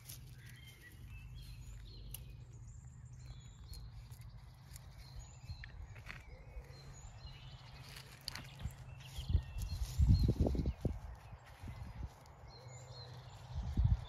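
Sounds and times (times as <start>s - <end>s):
wild birds singing: 0.0s - 14.0s.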